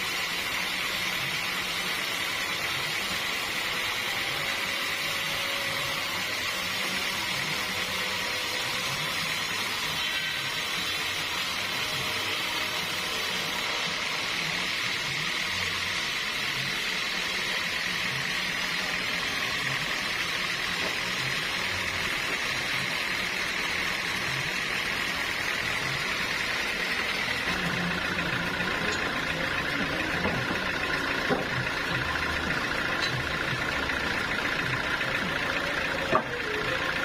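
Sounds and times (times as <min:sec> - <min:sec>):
sawmill saw hissing: 0:00.0 - 0:37.0.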